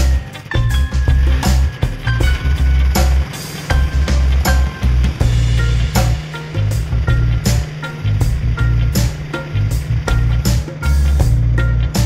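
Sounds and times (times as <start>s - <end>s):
music with drumbeat and bass: 0.0s - 12.0s.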